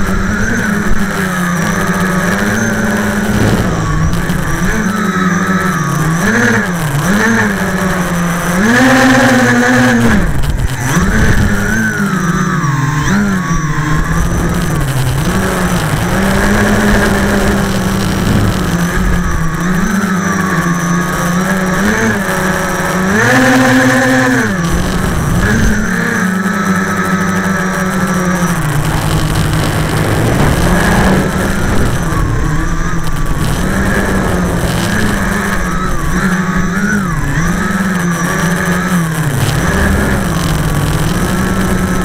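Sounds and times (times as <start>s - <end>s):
drone propellers buzzing: 0.0s - 42.0s.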